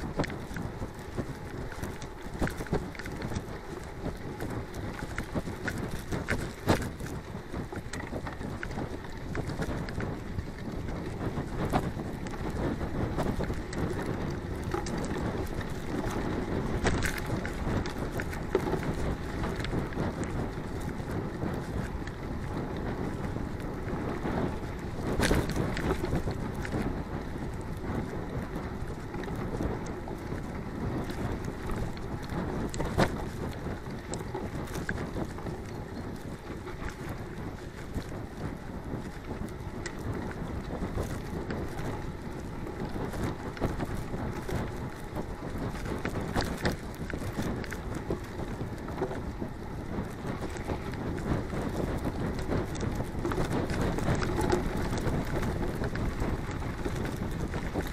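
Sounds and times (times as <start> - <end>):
bike tyres rolling on dirt: 0.0 - 57.9
wind buffeting microphone: 0.0 - 57.9.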